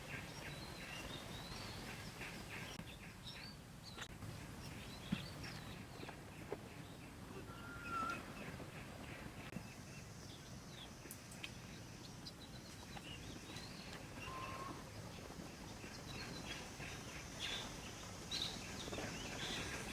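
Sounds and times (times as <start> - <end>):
steady low hiss: 0.0 - 19.9.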